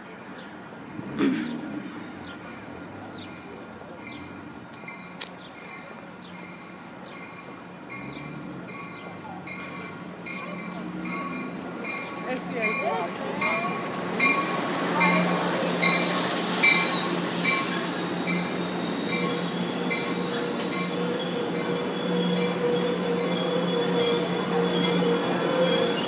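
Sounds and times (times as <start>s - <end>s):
train hum and rolling noise: 0.0s - 26.0s
train wheels and brakes squealing: 3.3s - 26.0s
train bell ringing: 3.4s - 26.0s.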